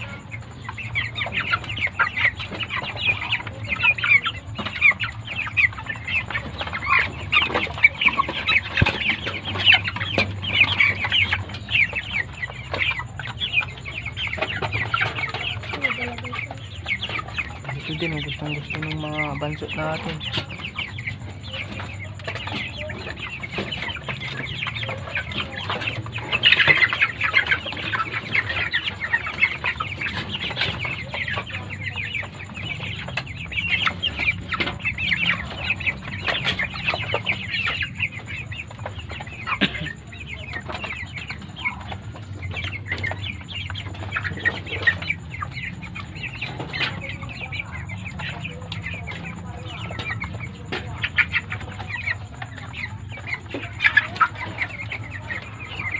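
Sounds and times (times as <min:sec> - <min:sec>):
chickens clucking and calling: 0:00.0 - 0:55.9.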